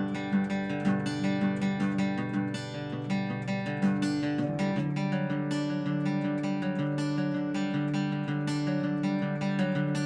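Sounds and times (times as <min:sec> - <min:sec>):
guitar plucked and strummed: 0:00.0 - 0:10.0.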